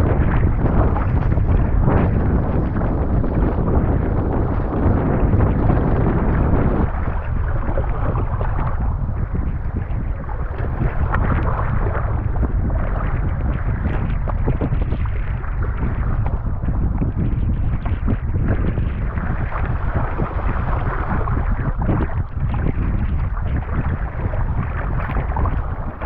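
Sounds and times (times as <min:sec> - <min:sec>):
water sloshing and splashing: 0:00.0 - 0:26.0
wind buffeting microphone: 0:00.0 - 0:26.0.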